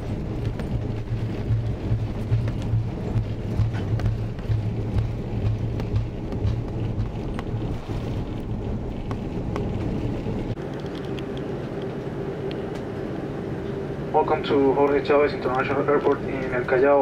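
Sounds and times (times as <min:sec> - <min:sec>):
aircraft cabin roar: 0:00.0 - 0:17.0.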